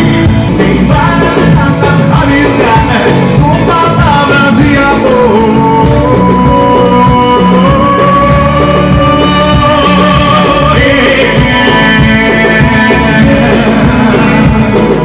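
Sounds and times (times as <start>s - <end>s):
live band over loud pa: 0.0s - 15.0s
man singing into microphone: 0.0s - 15.0s.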